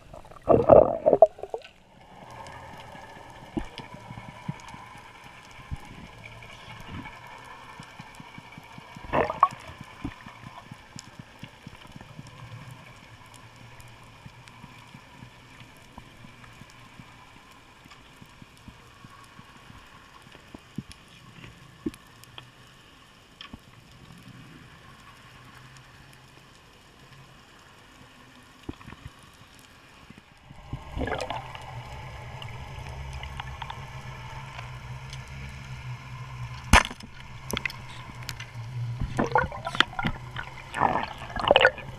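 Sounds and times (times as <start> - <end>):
faint clicks and crackles: 0.0 - 41.9
underwater rushing and gurgling: 0.0 - 41.9.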